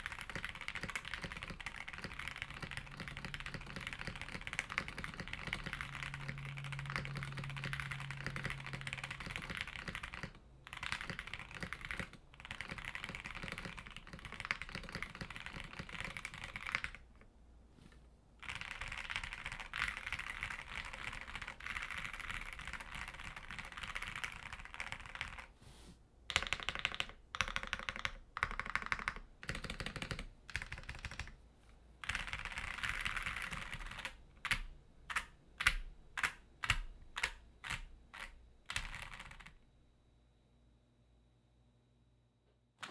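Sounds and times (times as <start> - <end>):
mechanical keyboard typing: 0.0 - 17.2, 18.4 - 25.5, 26.3 - 31.4, 32.0 - 39.6.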